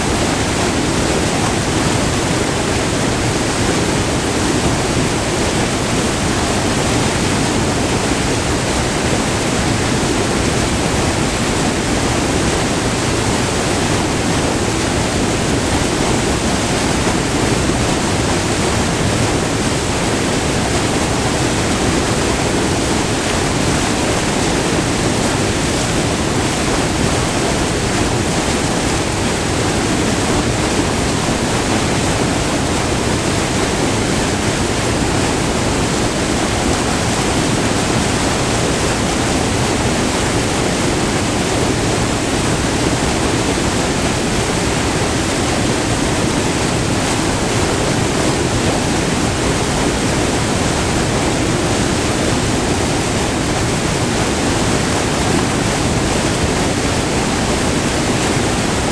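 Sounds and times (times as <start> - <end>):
waterfall roaring: 0.0 - 58.9.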